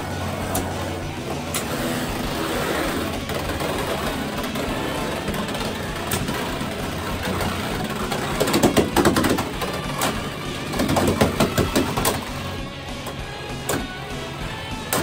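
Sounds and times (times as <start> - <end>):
spinning tops whirring on plastic: 0.0 - 15.0
tops clashing with rapid clicking: 0.0 - 15.0.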